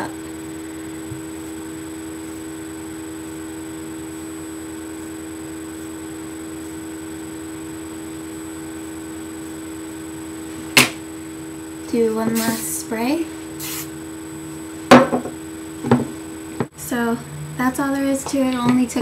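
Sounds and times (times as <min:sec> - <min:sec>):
steady hum with hiss: 0:00.0 - 0:19.0.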